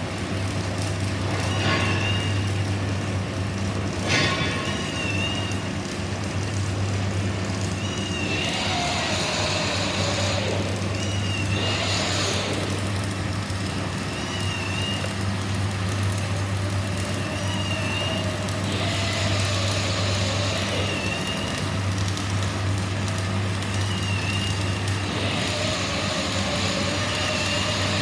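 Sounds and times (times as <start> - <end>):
welding machine hum: 0.0 - 28.0
welding arc hissing: 1.1 - 28.0.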